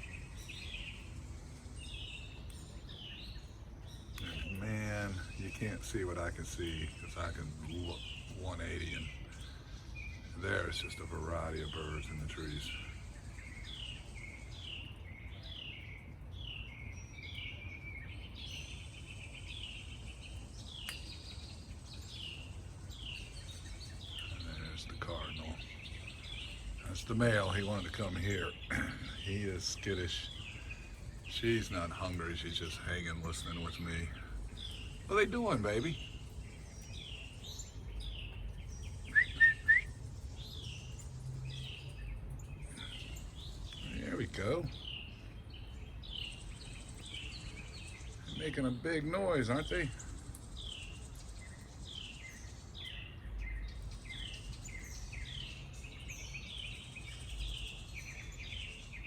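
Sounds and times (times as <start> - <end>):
loud sharp bird chirps: 0.0 - 59.0
songbirds whistling: 0.0 - 59.0.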